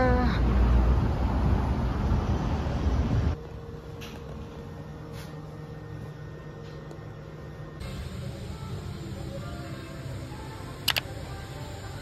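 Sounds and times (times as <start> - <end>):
city street noise: 0.0 - 12.0
ventilation hum: 0.8 - 12.0.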